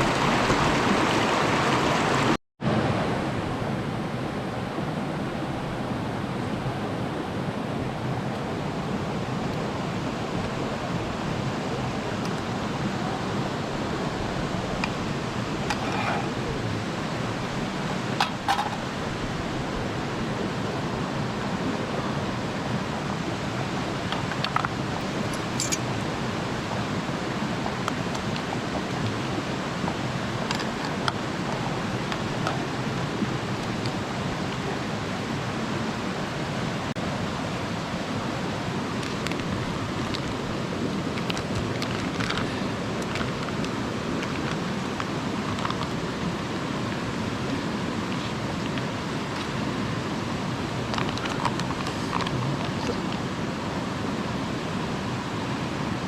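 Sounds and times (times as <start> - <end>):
mountain stream rushing: 0.0 - 56.0.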